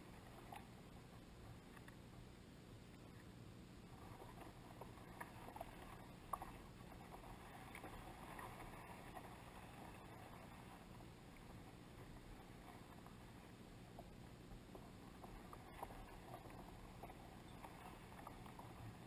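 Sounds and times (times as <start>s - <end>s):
water lapping against hull: 0.0s - 19.0s.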